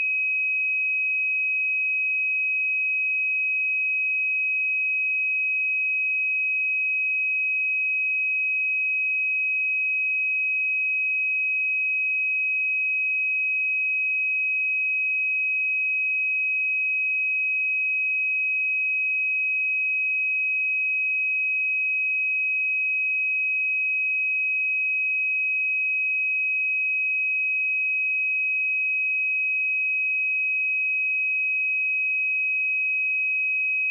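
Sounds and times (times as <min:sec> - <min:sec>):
sine-wave test tone: 0:00.0 - 0:33.9.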